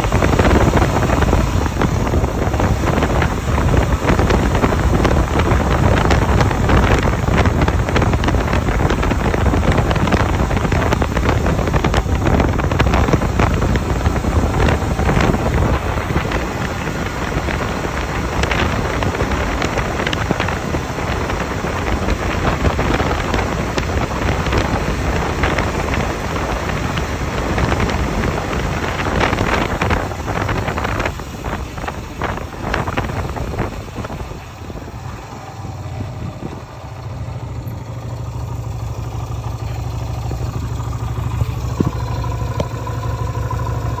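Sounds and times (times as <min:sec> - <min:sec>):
motorcycle engine: 0:00.0 - 0:44.0
motorcycle engine idling: 0:00.0 - 0:44.0
wind and road noise: 0:00.0 - 0:44.0.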